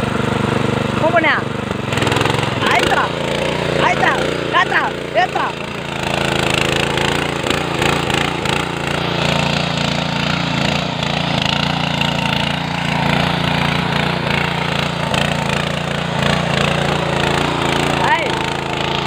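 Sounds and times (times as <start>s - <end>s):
small petrol engine running: 0.0s - 19.0s
tines tilling muddy soil: 0.0s - 19.0s.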